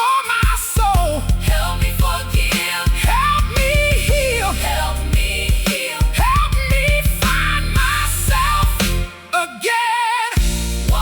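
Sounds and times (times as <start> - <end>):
steady drum beat: 0.4 - 9.1, 10.4 - 11.0.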